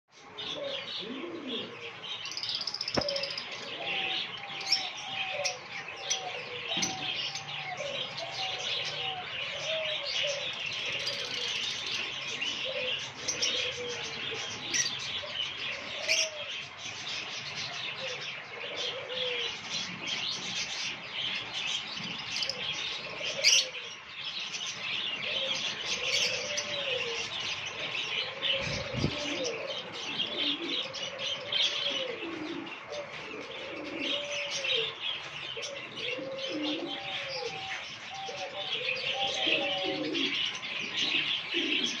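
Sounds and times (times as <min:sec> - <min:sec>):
lovebirds chattering and chirping: 0:00.1 - 0:42.0.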